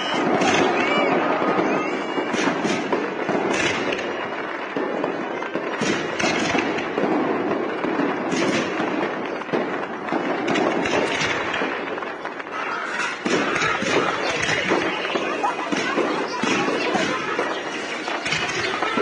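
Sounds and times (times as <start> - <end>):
crackling and sharp bangs: 0.0 - 19.0.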